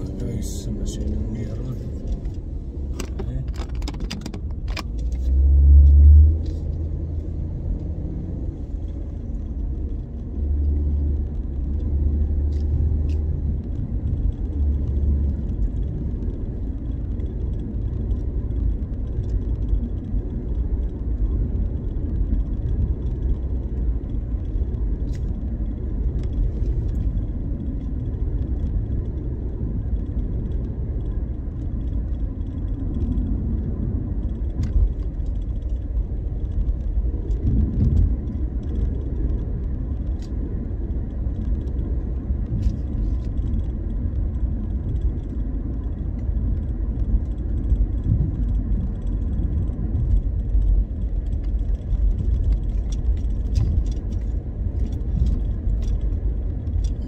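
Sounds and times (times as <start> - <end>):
road and engine rumble in car: 0.0 - 57.0.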